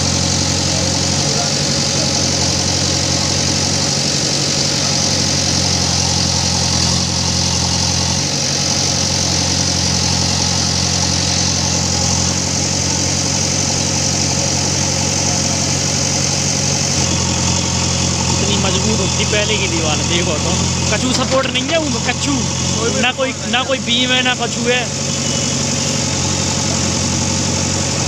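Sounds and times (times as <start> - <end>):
diesel engine running steadily: 0.0 - 28.0.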